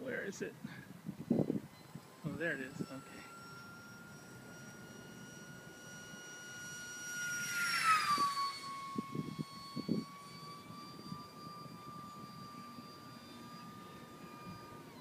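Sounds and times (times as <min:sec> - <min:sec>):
model airplane motor whine: 0:00.6 - 0:15.0.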